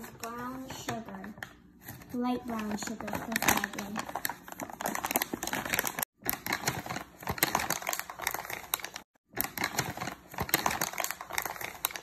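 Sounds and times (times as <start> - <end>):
crackling and crinkling: 0.0 - 12.0.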